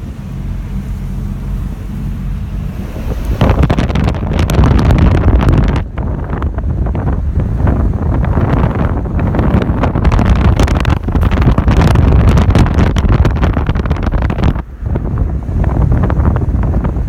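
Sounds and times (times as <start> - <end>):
vehicle driving rumble: 0.0 - 17.0
wind buffeting microphone: 2.0 - 17.0.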